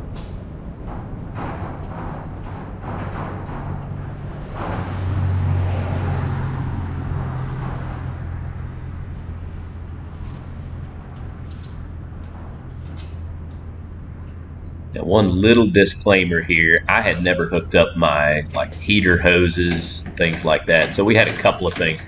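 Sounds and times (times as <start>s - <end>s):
low mechanical motor hum: 0.0s - 22.0s.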